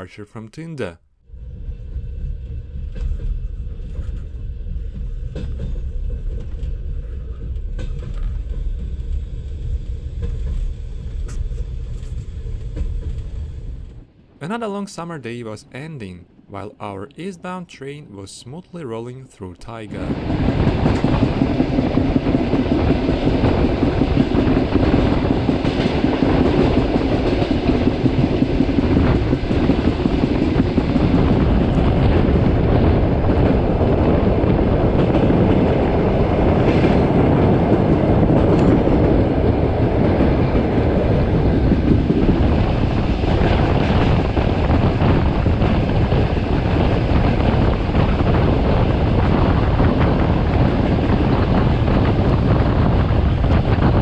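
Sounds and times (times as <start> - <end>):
train wheels rumbling on rails: 1.3 - 54.0.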